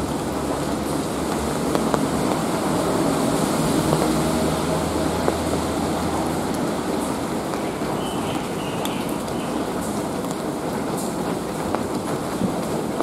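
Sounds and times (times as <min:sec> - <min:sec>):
raindrops ticking on hard surface: 0:00.0 - 0:13.0
steady rain: 0:00.0 - 0:13.0
traffic rumble: 0:00.0 - 0:13.0.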